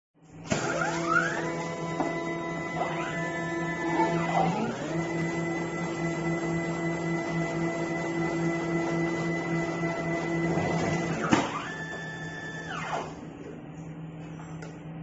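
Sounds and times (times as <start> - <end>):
taping machine whining: 0.5 - 13.2.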